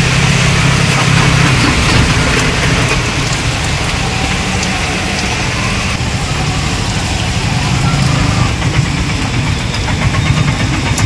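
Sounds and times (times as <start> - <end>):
auto-rickshaw engine idling: 0.0 - 11.0
engine rattle: 0.0 - 11.0.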